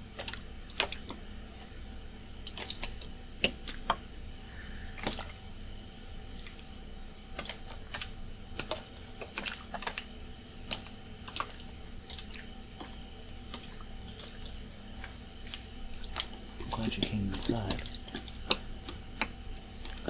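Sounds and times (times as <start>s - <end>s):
air conditioner hum: 0.0s - 20.0s.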